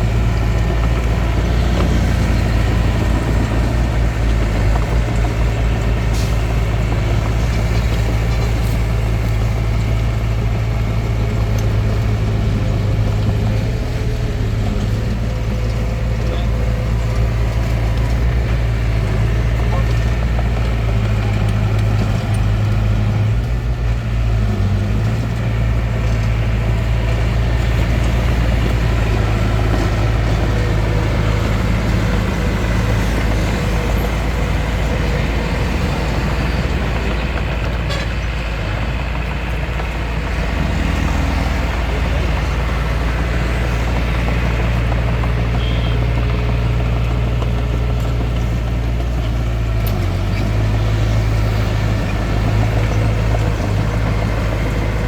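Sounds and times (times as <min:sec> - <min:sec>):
bulldozer engine running: 0:00.0 - 0:55.0.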